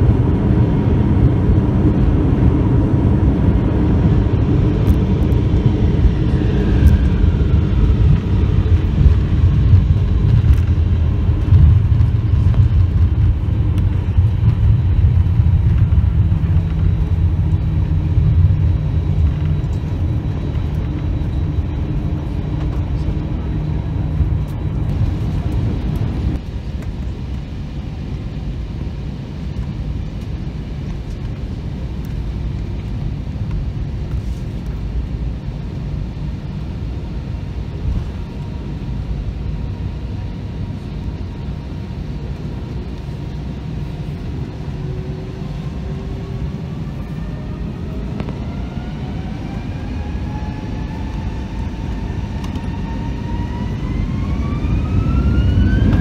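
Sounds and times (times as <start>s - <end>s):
jet engine whine rising: 0.0s - 56.0s
jet engines rumbling: 0.0s - 56.0s.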